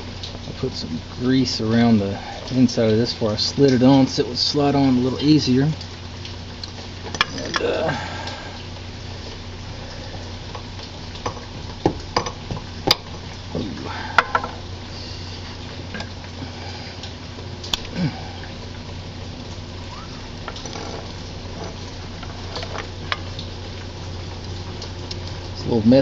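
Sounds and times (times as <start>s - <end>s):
low hum: 0.0s - 25.7s.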